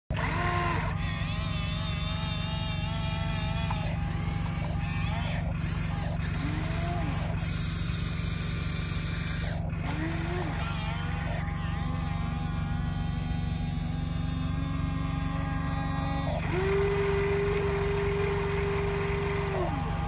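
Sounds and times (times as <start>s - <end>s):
low engine-like hum: 0.1s - 20.0s.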